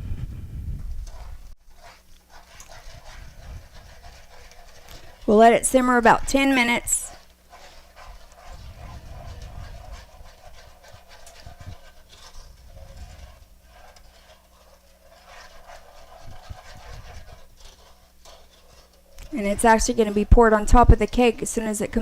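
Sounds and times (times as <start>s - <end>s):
spoon scraping and swishing: 1.0s - 22.0s
spoon stirring in a pot: 1.0s - 22.0s.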